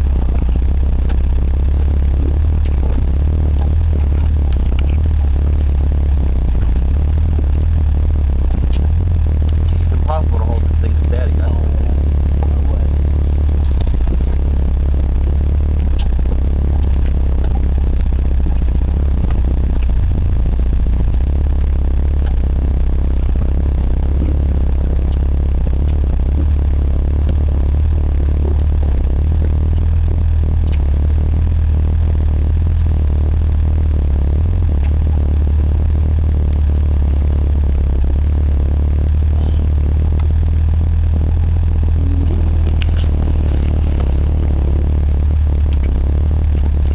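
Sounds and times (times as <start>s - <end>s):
vehicle engine running at low revs: 0.0s - 46.9s.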